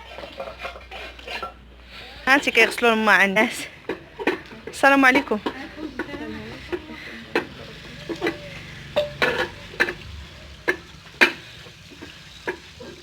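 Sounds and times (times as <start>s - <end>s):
metal vessels knocking and clinking: 0.0s - 1.7s, 2.3s - 13.0s.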